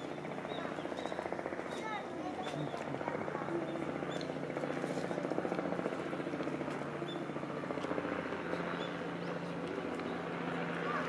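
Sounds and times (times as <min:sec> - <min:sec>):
fluttering mechanical drone: 0:00.0 - 0:11.0.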